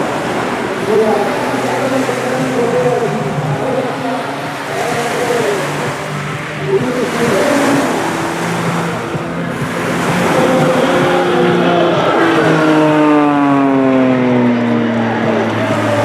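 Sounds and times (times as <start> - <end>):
propeller plane engine: 0.0 - 16.0
steady rushing noise: 0.0 - 16.0.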